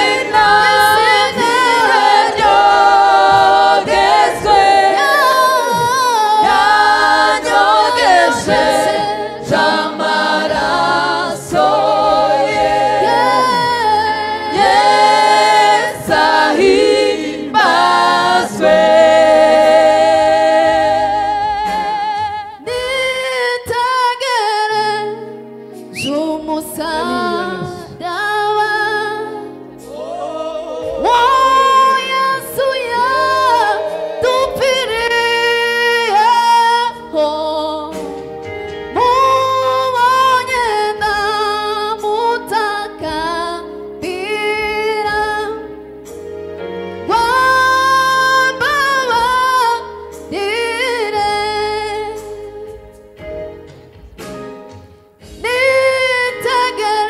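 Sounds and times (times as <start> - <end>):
choir singing gospel: 0.0 - 57.0.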